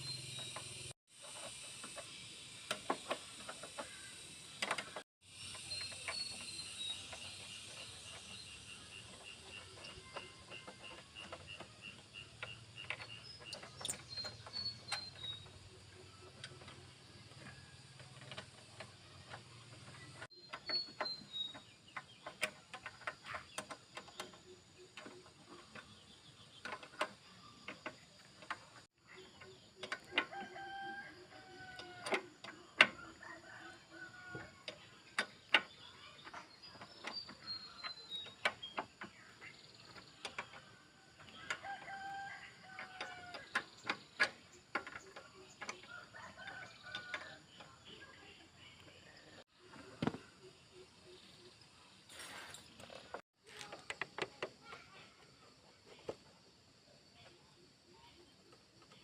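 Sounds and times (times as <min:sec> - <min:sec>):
bird chirping: 0:00.0 - 0:55.8.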